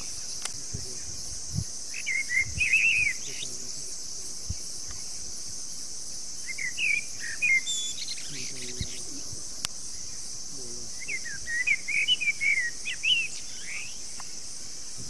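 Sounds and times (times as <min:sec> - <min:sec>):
birds chirping: 0:00.0 - 0:15.0
insects droning: 0:00.0 - 0:15.0.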